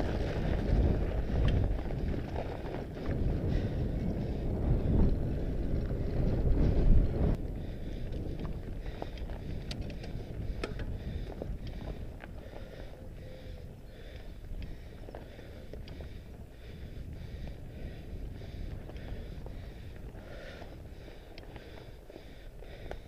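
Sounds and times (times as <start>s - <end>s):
bike clicks and rattles: 0.0s - 23.0s
wind buffeting microphone: 0.0s - 23.0s.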